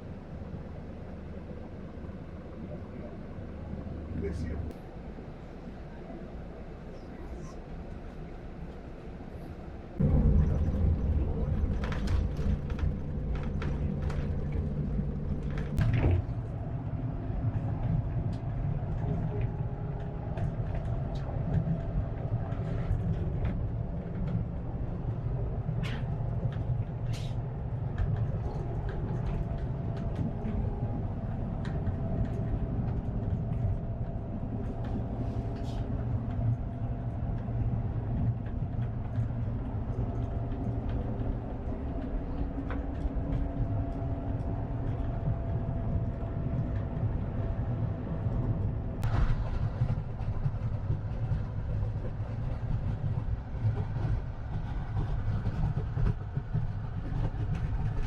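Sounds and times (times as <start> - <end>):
coach engine and road rumble: 0.0 - 58.0.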